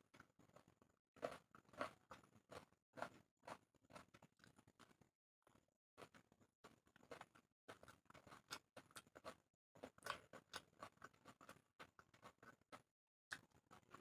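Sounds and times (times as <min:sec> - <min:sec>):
chewing crispy food: 0:00.0 - 0:14.0.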